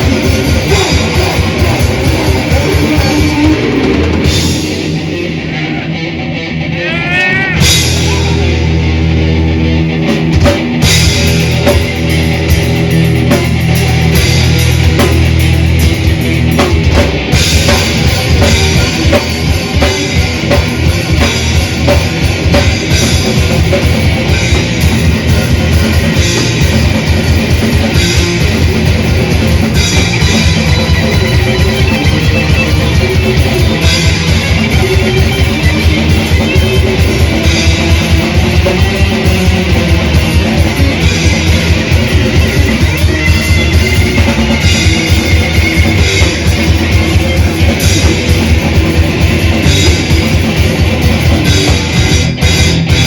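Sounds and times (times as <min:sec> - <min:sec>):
rapid drum beats: 0:00.0 - 0:05.5, 0:06.8 - 0:53.0
distorted electric guitars: 0:00.0 - 0:53.0
metal band playing: 0:00.0 - 0:53.0.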